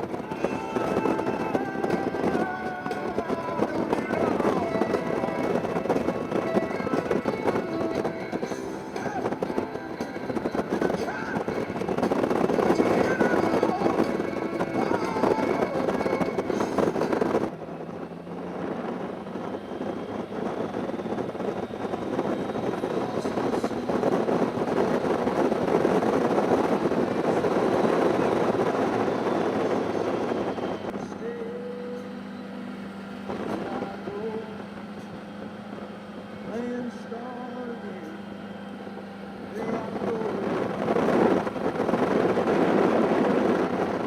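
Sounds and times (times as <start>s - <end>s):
wind rushing: 0.0s - 31.5s, 38.2s - 44.0s
motorcycle engine: 0.0s - 44.0s.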